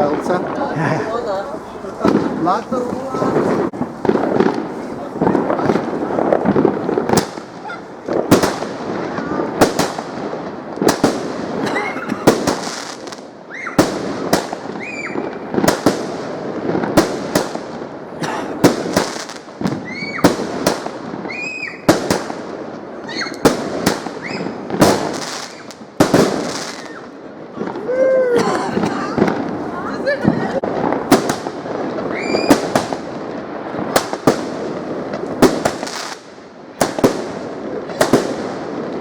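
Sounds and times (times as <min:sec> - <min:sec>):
fireworks whistling: 0:00.0 - 0:11.6, 0:12.2 - 0:17.9, 0:18.5 - 0:39.0
fireworks bangs and crackles: 0:00.0 - 0:39.0.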